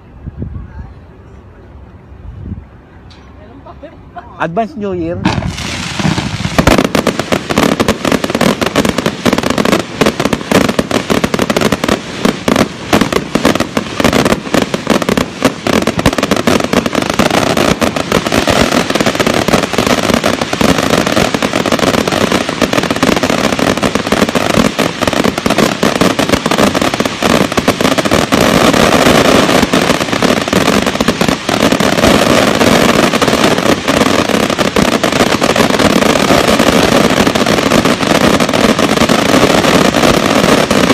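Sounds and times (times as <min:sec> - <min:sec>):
fireworks bangs and crackles: 0:04.5 - 0:40.9.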